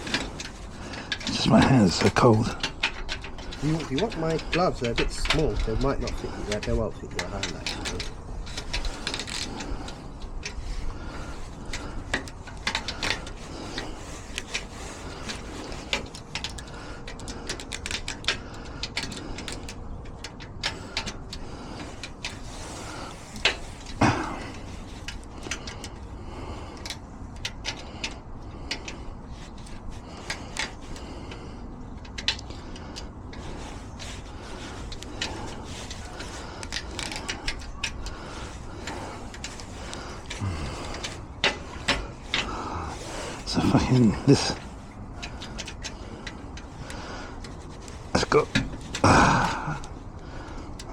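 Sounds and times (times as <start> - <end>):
lock-picking tools clicking: 0.0 - 50.9.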